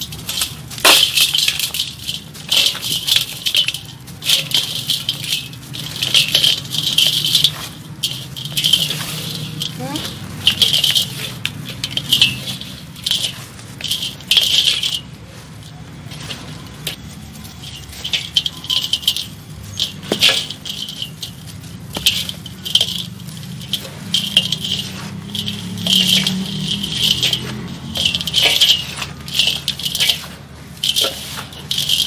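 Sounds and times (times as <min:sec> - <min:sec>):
grit pattering on metal bowl: 0:00.0 - 0:32.0.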